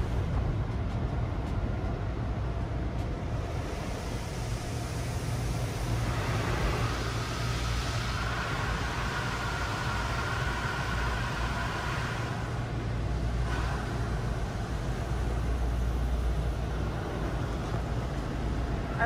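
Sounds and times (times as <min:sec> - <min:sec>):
machinery rumble: 0:00.0 - 0:19.0.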